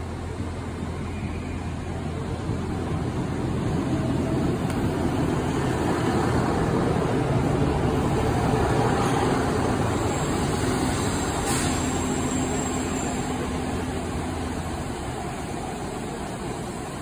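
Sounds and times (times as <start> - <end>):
train diesel engine running: 0.0 - 17.0.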